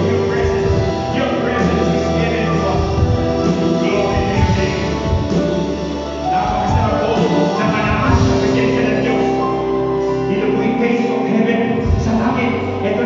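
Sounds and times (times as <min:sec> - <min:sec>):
keyboard: 0:00.0 - 0:13.0
worship band playing: 0:00.0 - 0:13.0.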